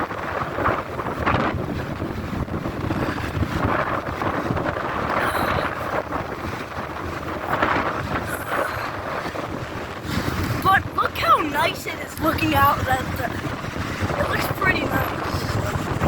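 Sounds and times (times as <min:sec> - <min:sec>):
wind buffeting microphone: 0:00.0 - 0:16.0
wind rushing across beach: 0:00.0 - 0:16.0.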